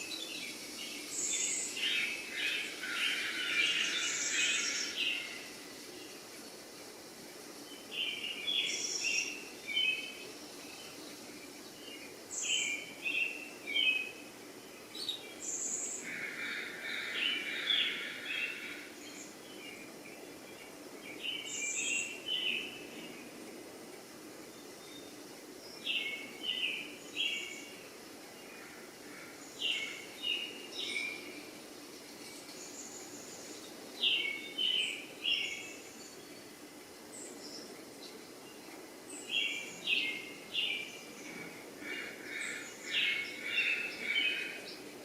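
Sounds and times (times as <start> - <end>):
songbird chirping: 0.0 - 45.0
steady background hiss: 0.0 - 45.0.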